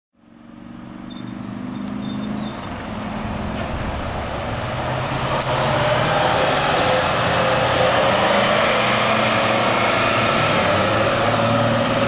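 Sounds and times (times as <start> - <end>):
bus engine running: 0.4 - 12.0.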